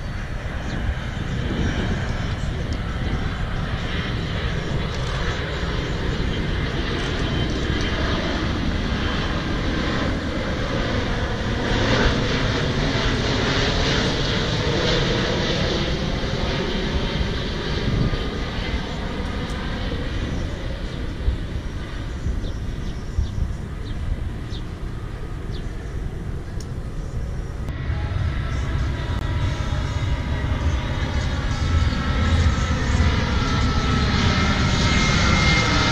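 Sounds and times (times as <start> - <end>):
airliner flying low overhead: 0.0 - 35.9.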